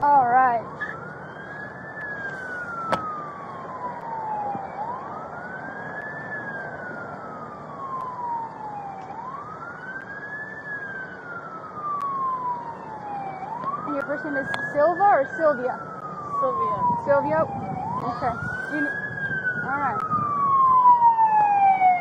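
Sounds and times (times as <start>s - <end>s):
emergency siren wailing: 0.0s - 22.0s.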